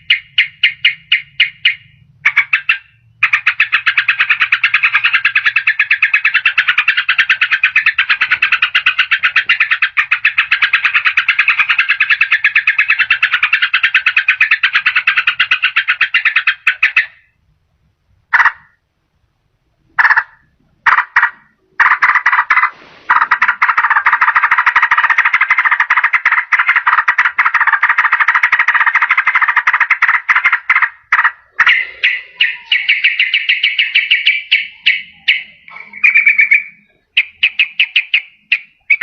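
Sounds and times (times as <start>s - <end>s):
bird chattering rattle: 0.0s - 17.3s, 20.0s - 39.0s.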